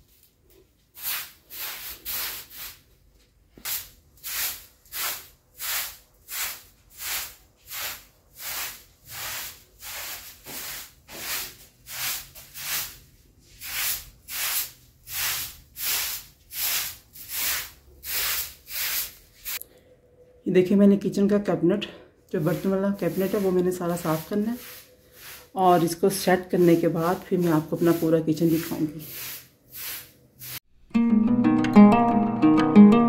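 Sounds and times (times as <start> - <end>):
broom sweeping a carpet: 0.0 - 2.9, 3.5 - 19.6, 22.4 - 30.7.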